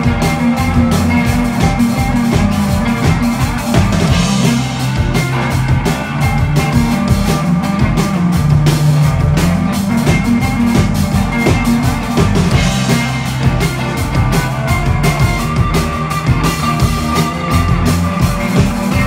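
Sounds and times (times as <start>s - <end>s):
drum kit beat: 0.0s - 19.0s
electric guitars: 0.0s - 19.0s
keyboard: 0.0s - 19.0s.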